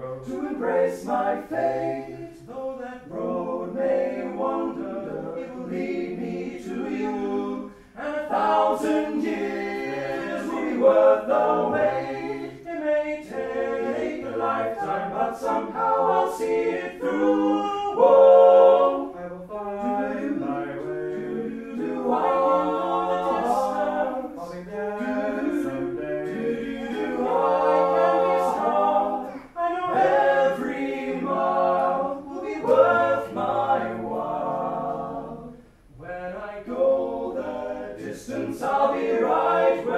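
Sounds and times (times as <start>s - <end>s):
voices singing together: 0.0s - 39.9s.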